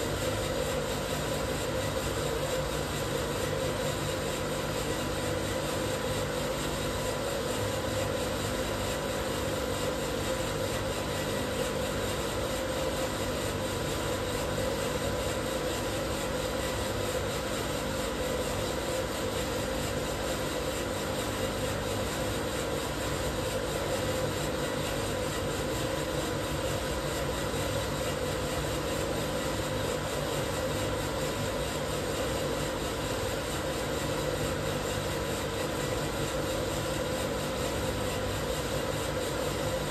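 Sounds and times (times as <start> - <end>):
coffee roaster machine hum: 0.0 - 39.9.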